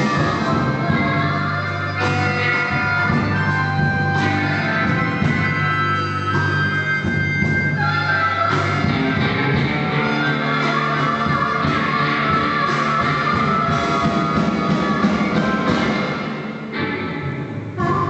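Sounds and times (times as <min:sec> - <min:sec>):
bass line: 0:00.0 - 0:18.0
blues-rock band playing: 0:00.0 - 0:18.0
electric guitar: 0:00.0 - 0:18.0.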